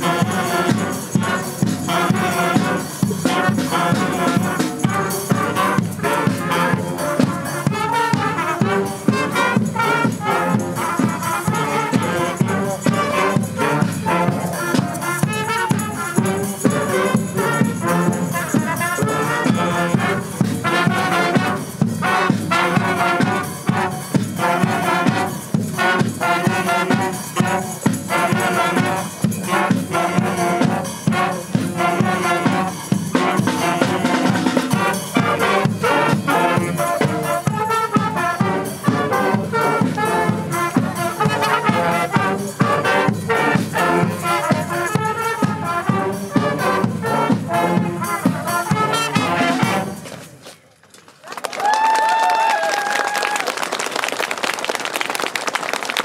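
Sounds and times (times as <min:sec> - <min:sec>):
drums keeping a beat: 0:00.0 - 0:50.4
trumpets and trombones: 0:00.0 - 0:50.4
wind band playing a march: 0:00.0 - 0:50.4.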